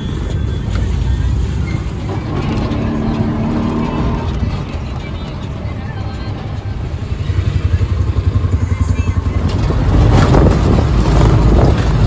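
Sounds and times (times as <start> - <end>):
road and traffic noise: 0.0 - 12.0
tuk-tuk engine throbbing: 0.0 - 12.0.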